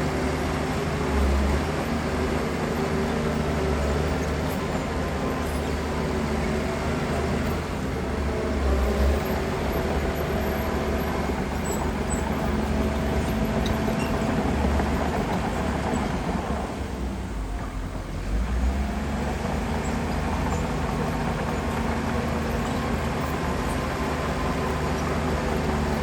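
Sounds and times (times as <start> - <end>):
heavy diesel engine rumble: 0.0 - 26.0.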